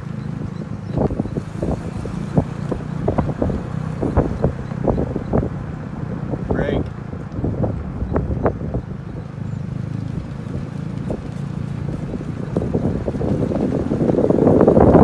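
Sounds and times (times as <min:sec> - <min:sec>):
car road and drivetrain hum: 0:00.0 - 0:15.0.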